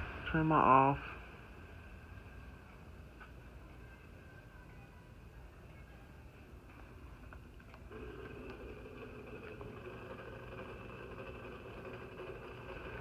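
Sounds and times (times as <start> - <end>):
faint machine hum: 0.0 - 13.0.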